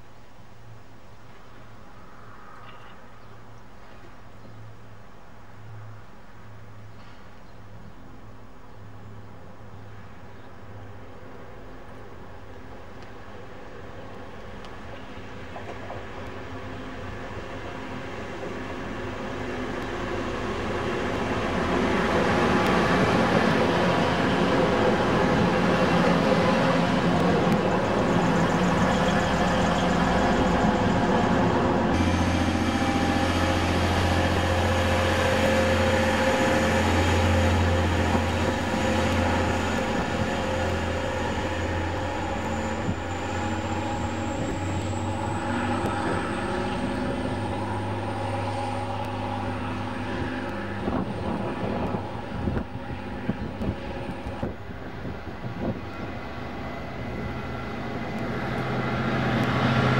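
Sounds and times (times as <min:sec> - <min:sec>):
diesel train engine drone: 0:08.0 - 0:59.9.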